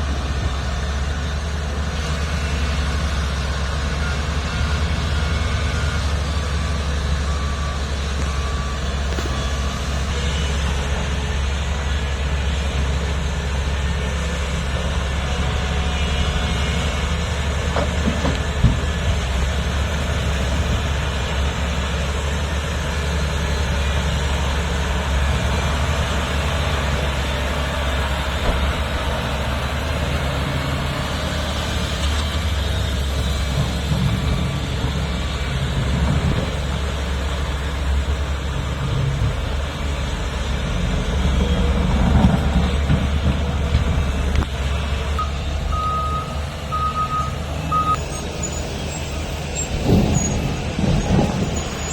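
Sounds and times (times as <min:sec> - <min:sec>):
heavy machinery diesel engines droning: 0:00.0 - 0:51.9.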